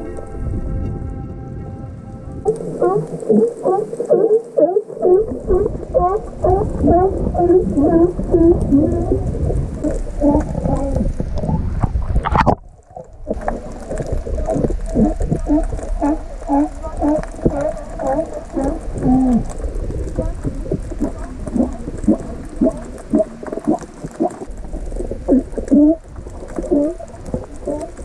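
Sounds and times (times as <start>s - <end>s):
low rumble of water: 0.0s - 28.0s
sea lions barking underwater: 2.5s - 11.2s, 13.3s - 28.0s.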